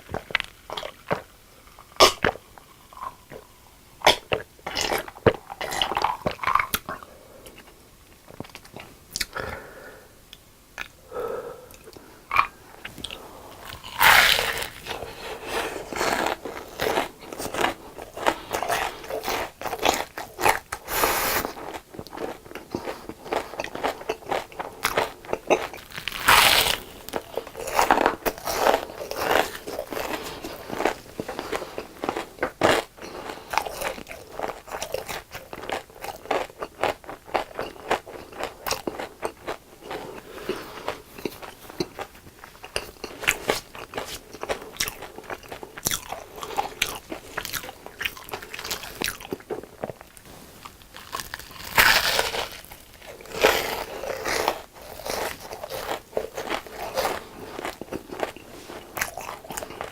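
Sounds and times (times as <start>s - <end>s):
crunchy food chewing: 0.0s - 9.4s, 11.8s - 59.9s.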